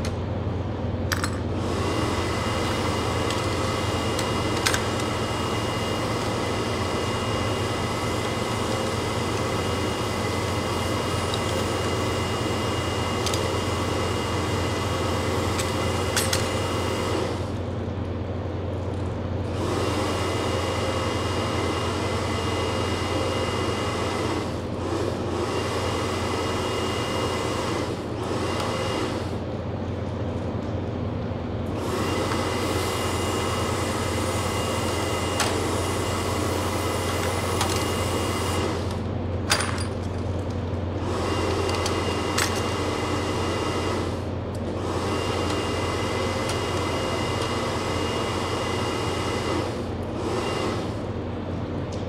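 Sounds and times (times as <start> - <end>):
machine hum and whir: 0.0 - 52.0.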